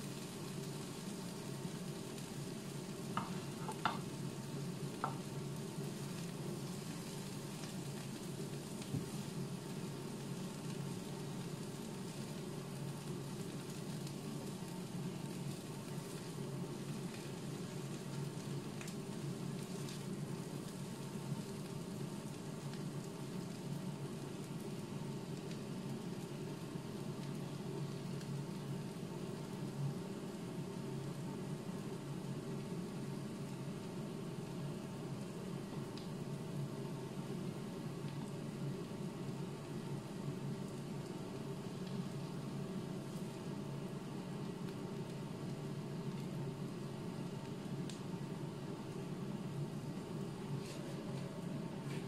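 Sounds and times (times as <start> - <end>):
food sizzling in frying pan: 0.0 - 52.0.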